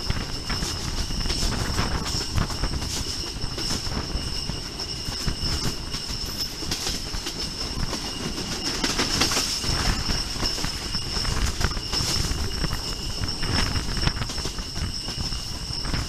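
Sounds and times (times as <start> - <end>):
high-pitched squeal: 0.0 - 16.0
train running rumble: 0.0 - 16.0.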